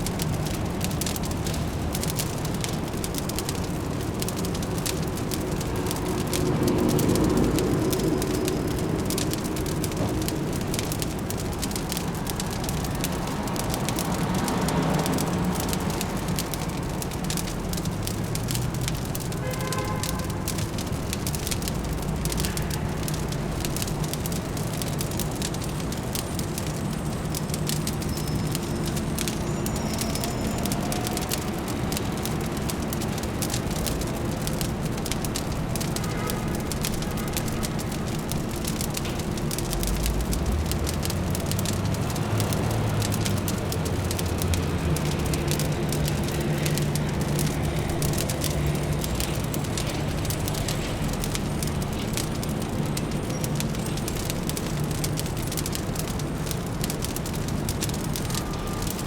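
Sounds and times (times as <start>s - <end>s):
fireplace crackling: 0.0s - 59.0s
low city hum: 0.0s - 59.0s.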